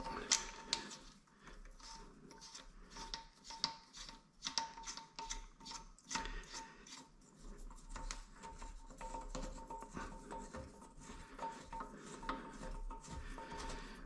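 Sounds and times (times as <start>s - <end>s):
scraping rubs: 0.0s - 14.0s.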